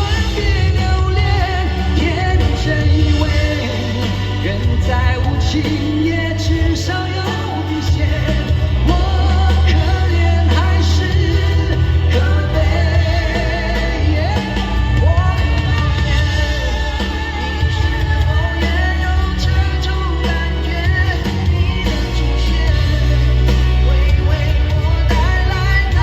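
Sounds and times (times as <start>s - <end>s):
live pop-rock band with singing: 0.0s - 26.0s.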